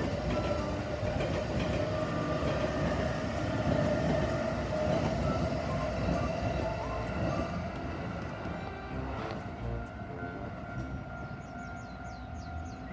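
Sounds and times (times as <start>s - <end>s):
electric train running past: 0.0s - 12.9s.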